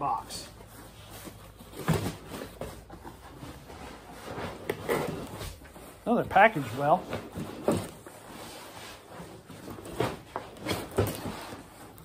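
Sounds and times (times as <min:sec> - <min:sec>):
cardboard and foam rustling: 0:00.0 - 0:12.0.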